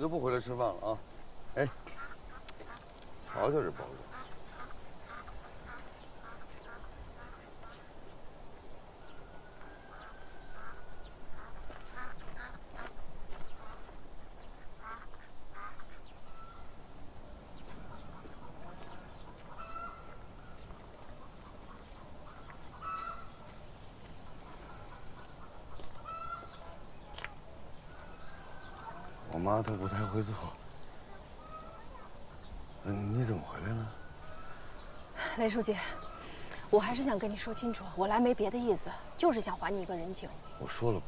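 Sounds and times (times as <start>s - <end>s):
farmyard fowl calling: 1.6s - 8.0s, 9.0s - 16.8s, 17.7s - 41.0s.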